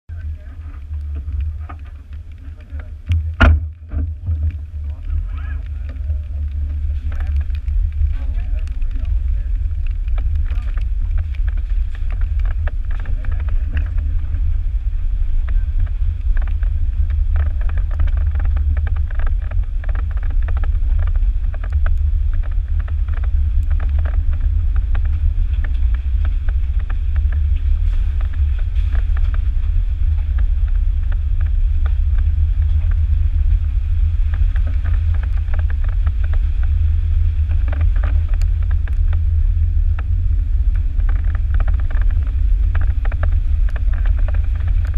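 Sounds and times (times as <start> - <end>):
gravel crackling under tyres: 0.0 - 44.9
vehicle engine rumble: 0.0 - 44.9.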